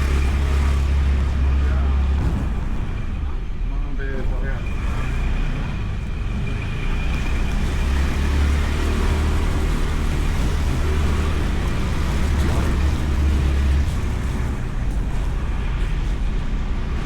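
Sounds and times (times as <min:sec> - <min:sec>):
road noise: 0:00.0 - 0:17.0
wind and engine rumble: 0:00.0 - 0:17.0.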